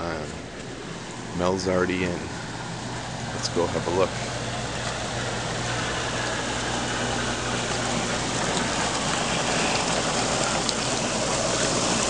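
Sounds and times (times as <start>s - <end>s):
hot tub jets churning water: 0.0s - 12.0s
low steady hum: 0.0s - 12.0s.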